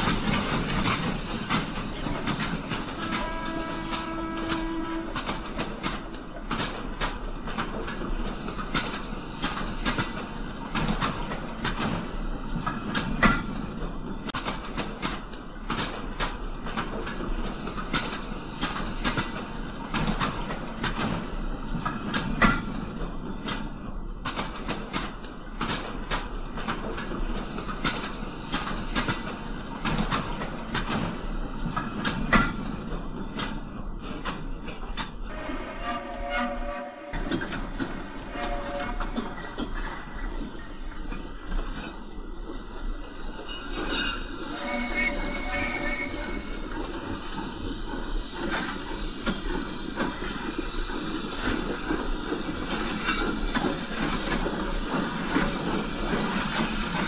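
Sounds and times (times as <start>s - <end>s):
wheels clicking on rails: 0.0s - 35.3s, 37.1s - 57.0s.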